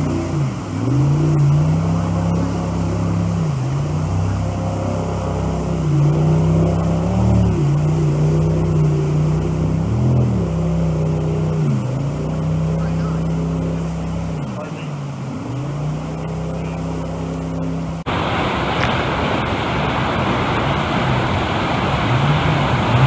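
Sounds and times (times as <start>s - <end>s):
boat engine at full throttle: 0.0s - 23.0s
rushing whitewater: 0.0s - 23.0s.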